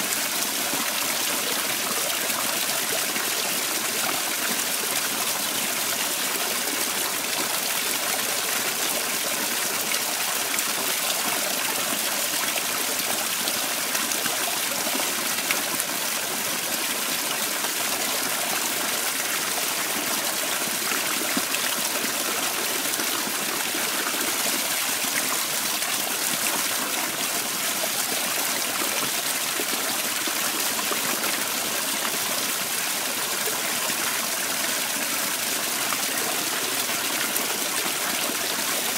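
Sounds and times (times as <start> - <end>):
waterfall splashing into pond: 0.0 - 38.9.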